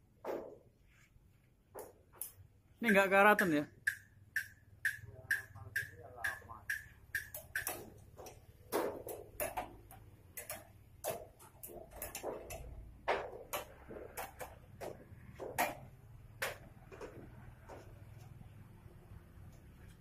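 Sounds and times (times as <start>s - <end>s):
sheet metal clicks and taps: 1.7s - 17.9s.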